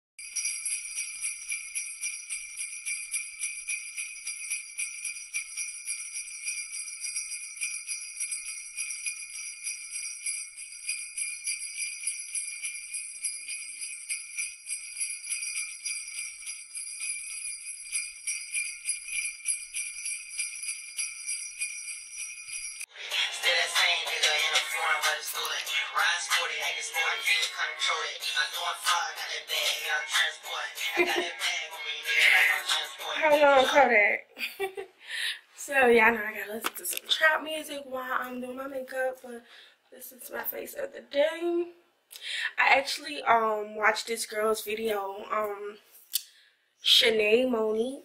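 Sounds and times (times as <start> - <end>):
sleigh bells jingling: 0.2 - 39.3.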